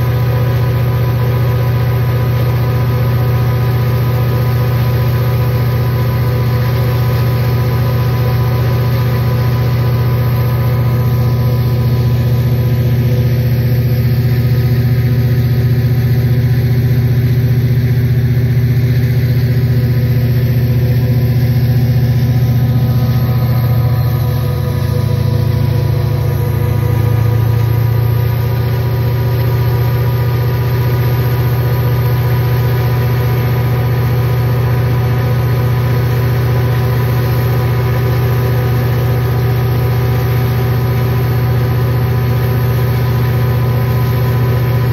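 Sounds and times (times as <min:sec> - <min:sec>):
diesel locomotive engine drone: 0:00.0 - 0:44.9.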